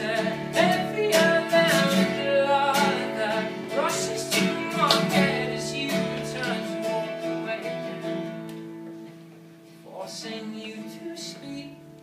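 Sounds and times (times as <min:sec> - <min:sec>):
man singing: 0:00.0 - 0:08.4, 0:09.8 - 0:12.0
acoustic guitar strummed: 0:00.0 - 0:12.0.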